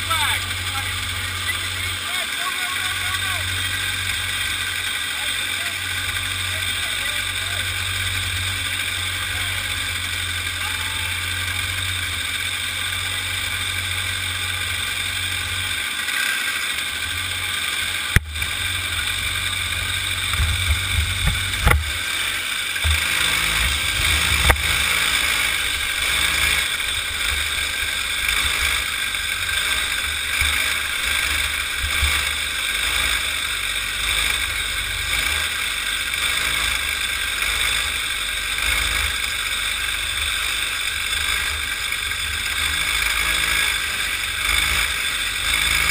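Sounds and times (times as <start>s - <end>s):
kart engine running: 0.0s - 45.9s.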